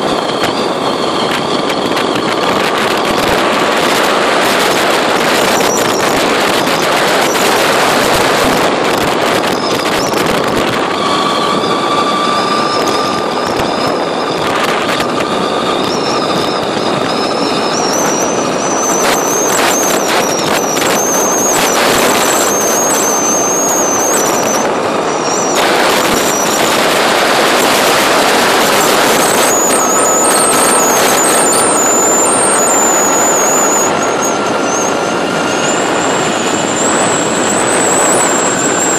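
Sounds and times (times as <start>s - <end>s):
scooter gearbox whine: 0.0s - 38.9s
wind noise on microphone: 0.0s - 38.9s.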